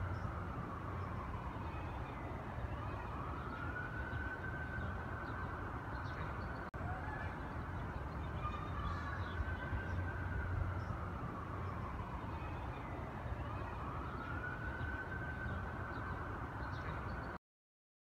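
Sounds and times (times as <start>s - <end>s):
emergency vehicle siren wailing: 0.0s - 17.4s.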